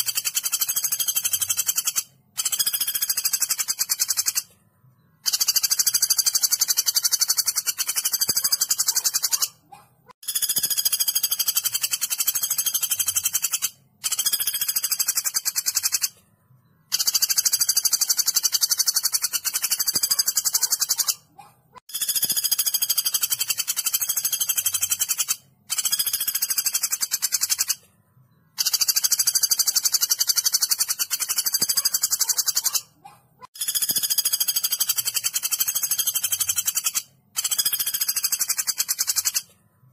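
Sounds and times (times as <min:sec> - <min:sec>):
woodpecker rattling trill: 0:00.0 - 0:04.5, 0:05.2 - 0:16.2, 0:16.9 - 0:27.8, 0:28.5 - 0:39.5.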